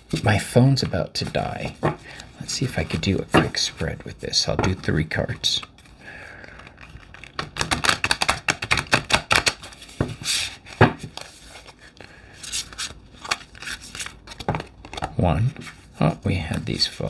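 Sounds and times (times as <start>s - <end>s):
cards being shuffled: 0.1s - 17.0s.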